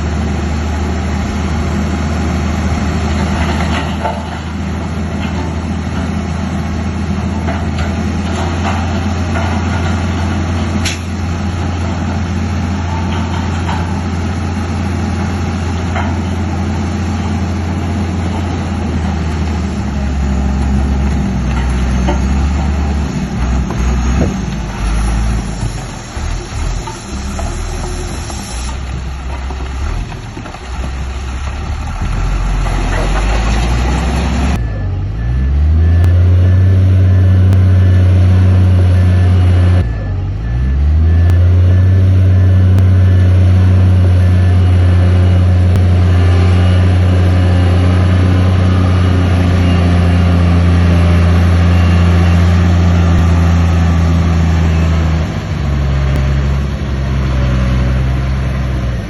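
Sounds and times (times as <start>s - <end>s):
heavy diesel engine revving: 0.0s - 30.2s, 30.8s - 59.0s.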